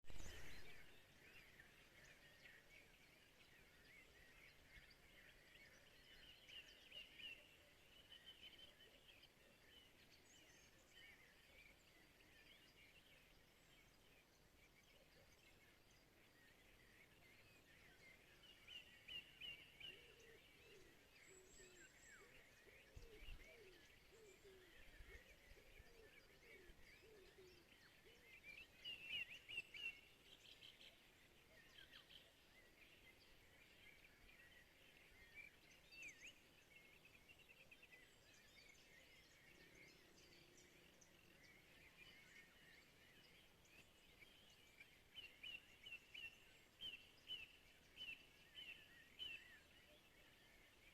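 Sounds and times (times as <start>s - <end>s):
birds chirping and trilling: 0.0s - 50.9s.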